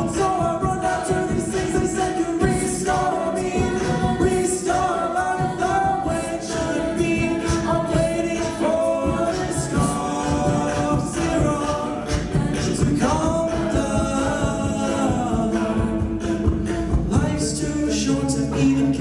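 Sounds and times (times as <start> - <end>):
a cappella group singing: 0.0 - 19.0.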